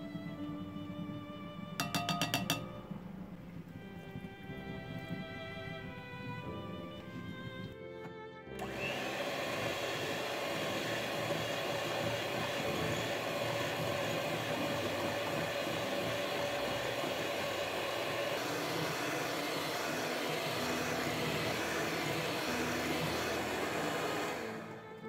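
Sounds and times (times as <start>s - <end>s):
electric hand mixer whining: 0.0s - 25.0s.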